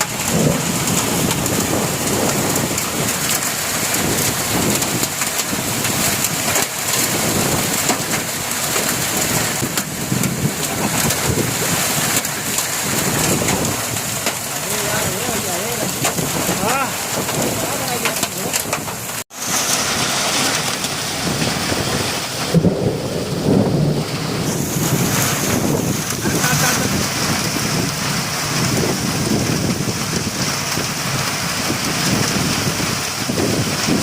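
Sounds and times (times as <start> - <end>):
heavy rain falling: 0.0 - 34.0
thunder rumbling: 0.0 - 34.0.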